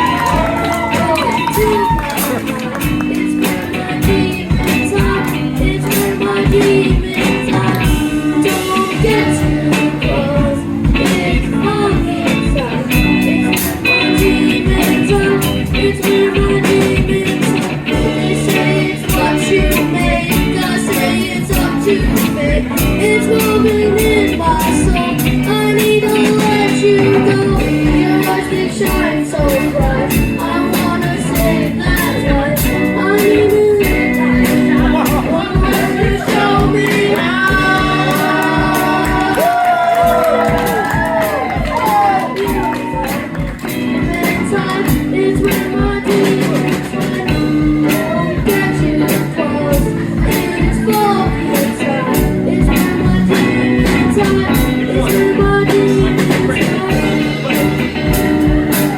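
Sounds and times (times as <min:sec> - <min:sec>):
guitar: 0:00.0 - 0:58.9
person singing: 0:00.0 - 0:58.9
steady drum beat: 0:00.0 - 0:58.9.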